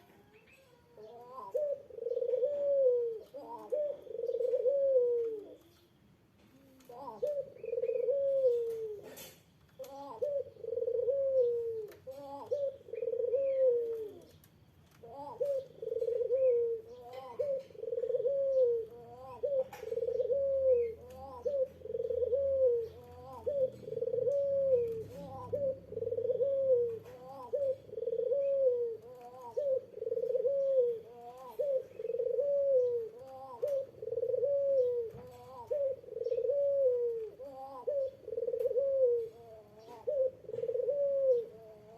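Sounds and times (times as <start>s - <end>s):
dove cooing: 0.0s - 5.8s, 6.5s - 41.9s.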